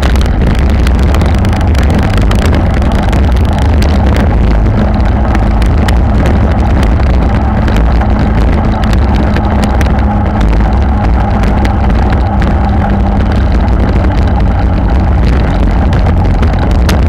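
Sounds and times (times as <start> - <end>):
clicks and rattles over brick paving: 0.0 - 17.0
wind buffeting microphone: 0.0 - 17.0.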